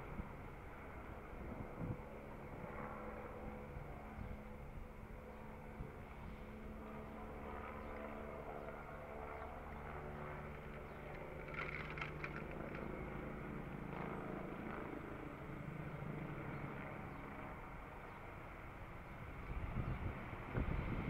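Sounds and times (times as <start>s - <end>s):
helicopter flying overhead: 0.0s - 21.0s.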